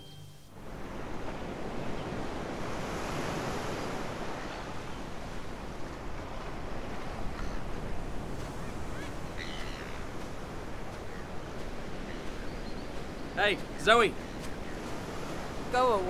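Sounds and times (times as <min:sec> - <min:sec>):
waves breaking: 0:00.6 - 0:16.0.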